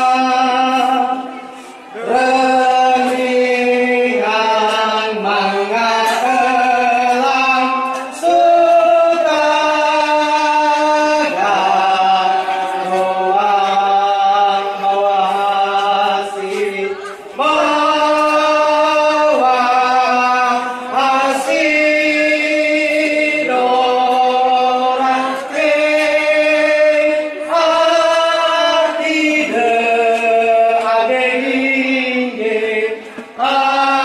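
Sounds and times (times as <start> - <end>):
man chanting into microphone: 0.0 - 34.0.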